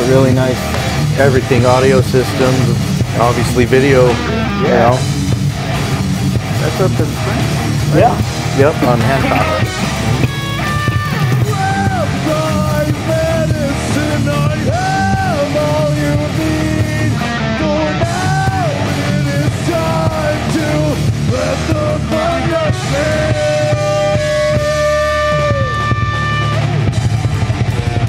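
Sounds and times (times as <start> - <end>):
sliding guitar melody: 0.0 - 27.8
rock band playing live: 0.0 - 28.0.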